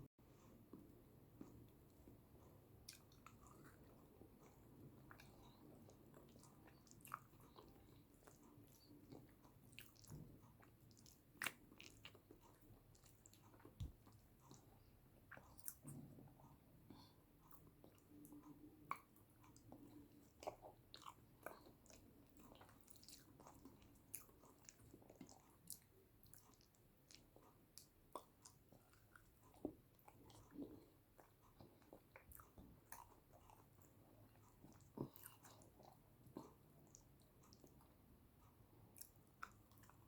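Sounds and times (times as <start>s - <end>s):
chewing and mouth sounds: 0.7s - 40.0s.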